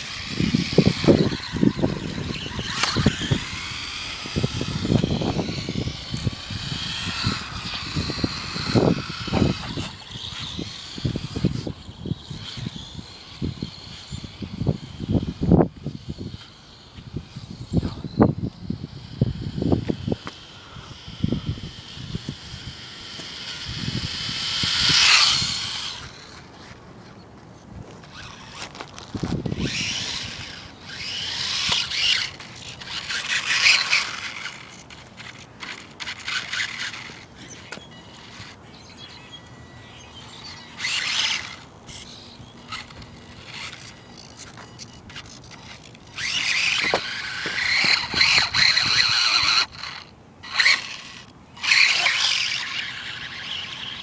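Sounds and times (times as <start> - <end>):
rc truck motor whining: 0.0 - 54.0.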